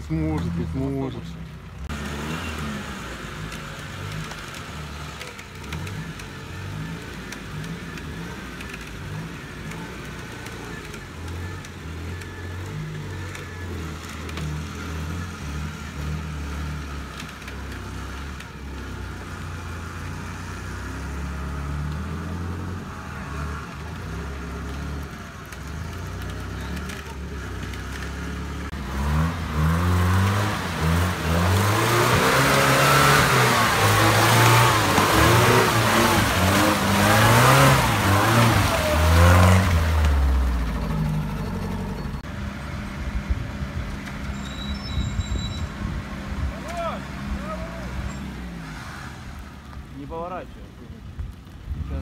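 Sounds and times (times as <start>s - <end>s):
off-road vehicle engine under load: 0.0s - 52.0s
vehicle driving through mud and water: 0.0s - 52.0s.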